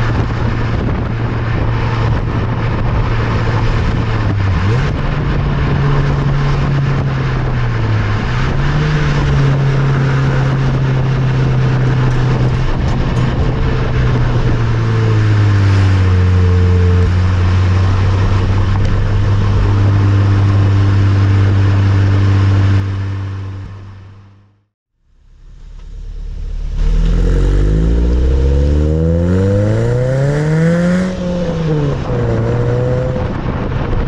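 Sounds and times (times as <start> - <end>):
car exhaust note: 0.0 - 34.0.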